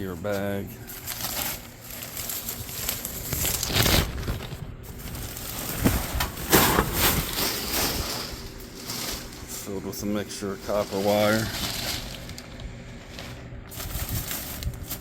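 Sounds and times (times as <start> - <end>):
bag of wire rustling: 0.0 - 15.0.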